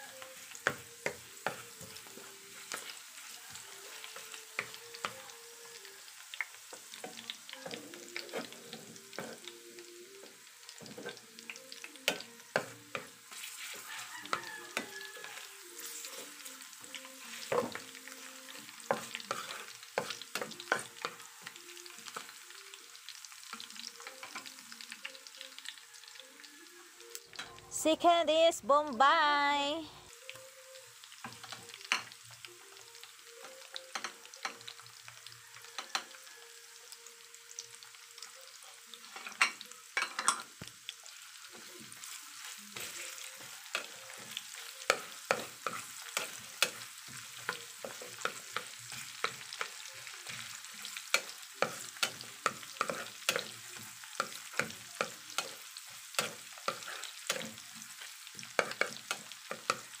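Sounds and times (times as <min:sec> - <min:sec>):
onion and garlic sizzling in oil: 0:00.0 - 1:00.0.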